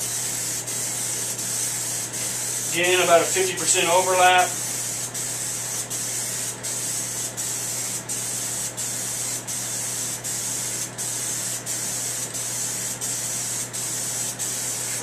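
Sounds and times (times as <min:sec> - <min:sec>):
aerosol spray can hissing: 0:00.0 - 0:15.0.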